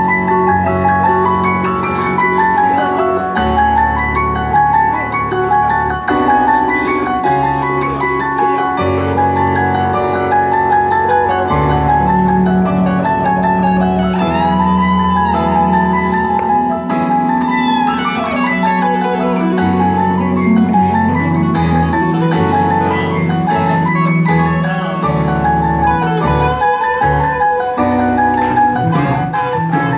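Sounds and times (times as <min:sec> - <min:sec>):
sustained low bass notes: 0:00.0 - 0:29.9
synthesizer piano melody: 0:00.0 - 0:29.9.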